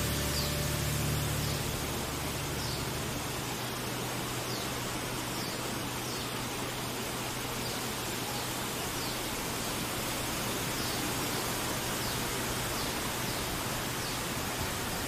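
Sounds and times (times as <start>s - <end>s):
low steady hum: 0.0s - 15.0s
river water flowing: 0.0s - 15.0s.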